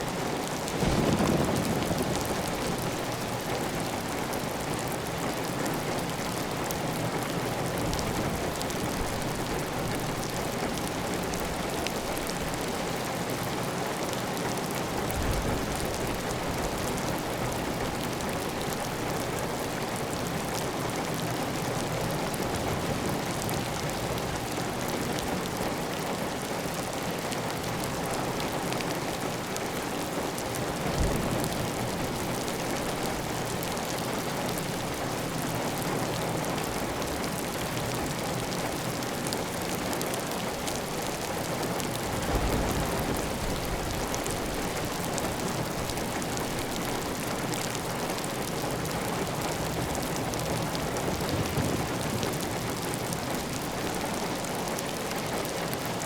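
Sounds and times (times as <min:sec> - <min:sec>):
heavy rain on a tile roof: 0:00.0 - 0:56.0.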